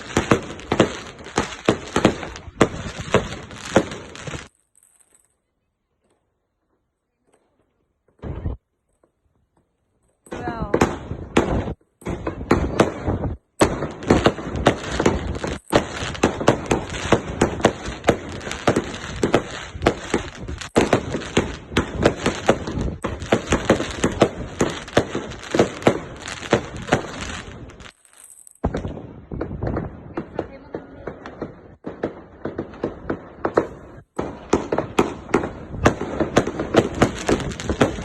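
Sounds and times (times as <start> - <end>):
fireworks shots and crackling bangs: 0.0 - 5.4, 7.2 - 38.0.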